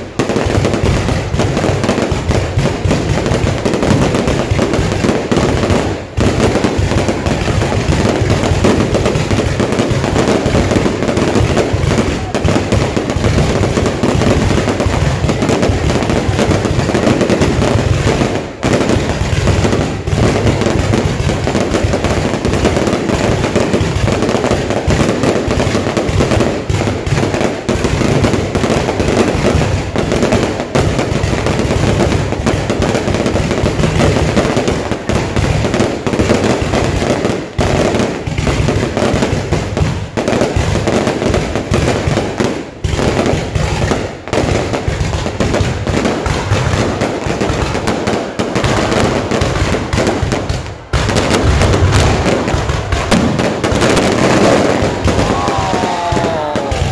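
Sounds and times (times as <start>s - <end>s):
fireworks crackling and banging: 0.0s - 56.9s.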